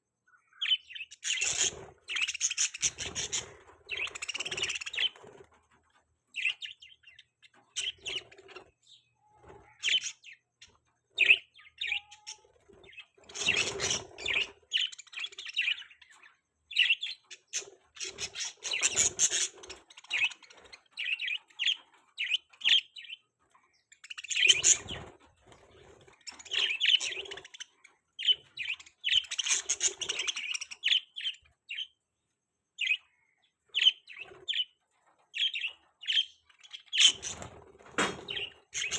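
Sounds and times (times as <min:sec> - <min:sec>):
budgerigars chirping and chattering: 0:00.4 - 0:05.5, 0:06.4 - 0:32.0, 0:32.8 - 0:38.9.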